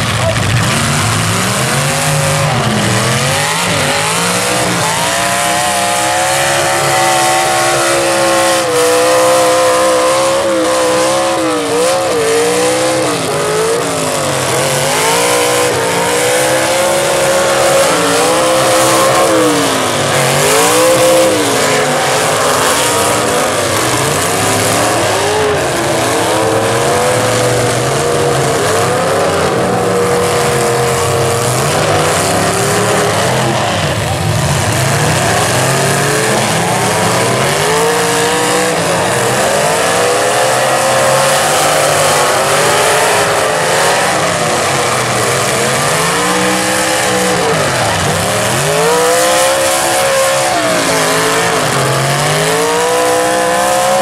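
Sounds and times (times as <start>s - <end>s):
car engines revving hard: 0.0s - 54.0s
cars ramming each other: 0.0s - 54.0s.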